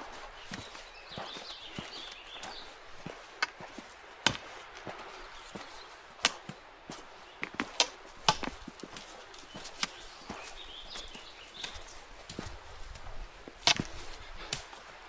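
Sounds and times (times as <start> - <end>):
footsteps on rocky trail: 0.0 - 15.0.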